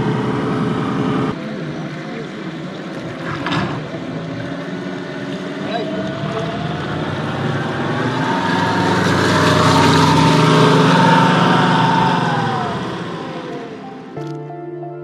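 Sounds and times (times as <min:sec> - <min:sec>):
model boat motor passing by: 0:00.0 - 0:14.2.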